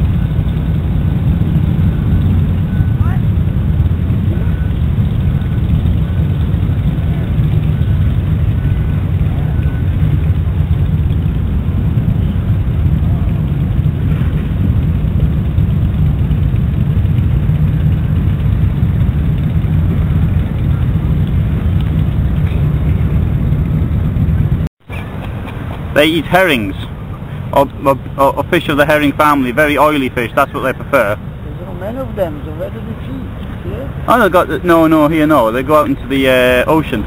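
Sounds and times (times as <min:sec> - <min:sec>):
low shore rumble: 0:00.0 - 0:37.0.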